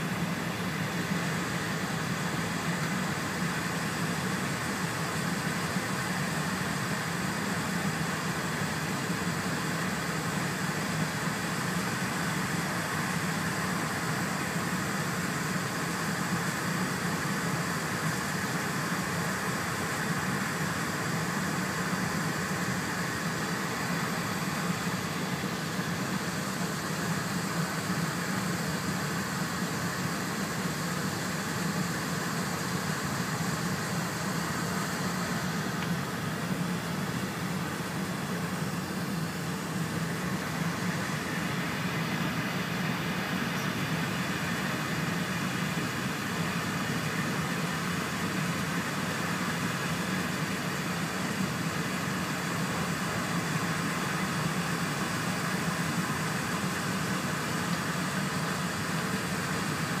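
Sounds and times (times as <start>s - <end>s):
train cabin running noise: 0.0s - 60.0s.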